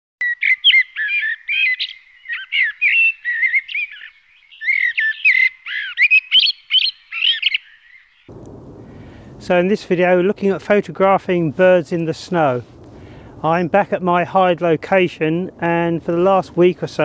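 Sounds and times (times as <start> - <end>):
songbird singing: 0.2 - 17.0.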